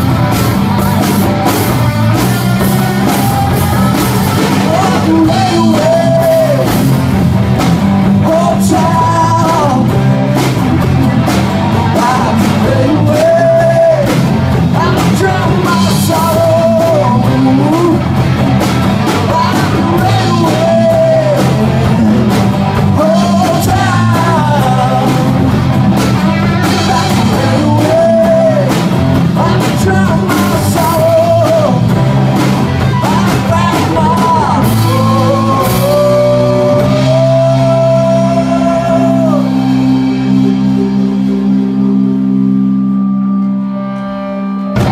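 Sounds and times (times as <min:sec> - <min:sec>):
rock band playing: 0:00.0 - 0:44.9
man singing: 0:02.1 - 0:07.3, 0:08.0 - 0:18.3, 0:19.0 - 0:41.4.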